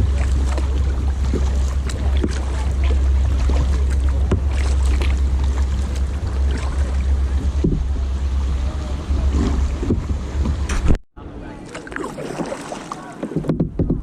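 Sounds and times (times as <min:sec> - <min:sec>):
steady low rumble: 0:00.0 - 0:11.6
paddle splashing water: 0:00.0 - 0:14.0.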